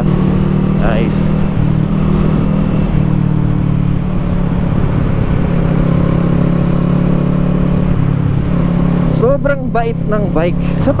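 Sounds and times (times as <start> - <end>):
wind noise: 0.0 - 9.1
motorcycle engine cruising: 0.0 - 11.0
road noise: 0.0 - 11.0.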